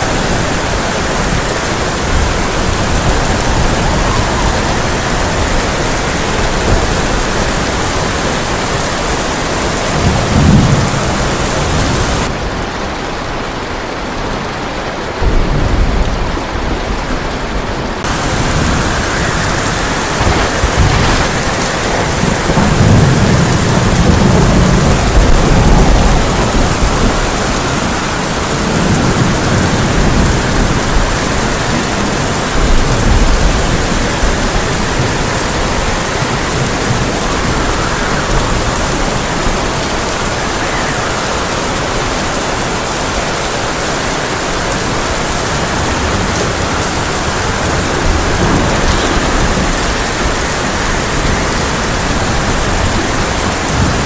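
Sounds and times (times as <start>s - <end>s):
rolling thunder: 0.0s - 12.7s, 15.2s - 42.7s, 44.8s - 54.0s
heavy rain on a tin roof: 0.0s - 54.0s.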